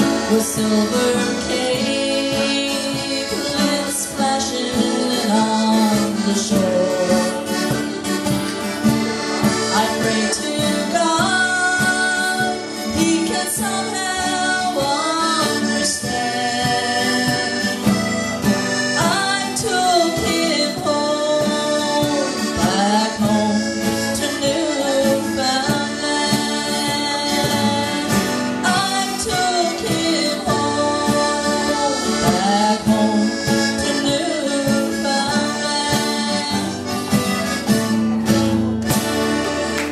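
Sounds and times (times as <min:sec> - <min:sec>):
accordion melody: 0:00.0 - 0:39.9
cajon beat: 0:00.0 - 0:39.9
strummed acoustic guitar: 0:00.0 - 0:39.9.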